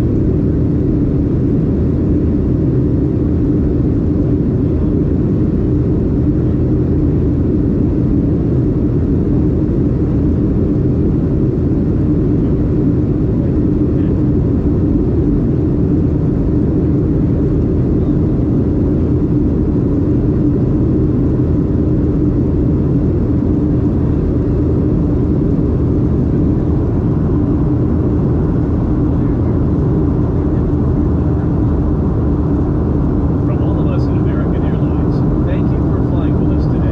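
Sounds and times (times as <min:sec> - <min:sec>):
airplane cabin rumble: 0:00.0 - 0:36.9.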